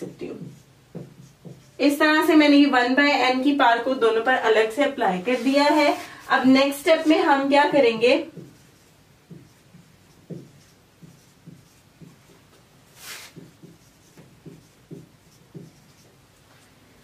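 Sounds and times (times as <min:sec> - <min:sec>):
marker writing on whiteboard: 0:00.0 - 0:02.7, 0:05.3 - 0:16.8.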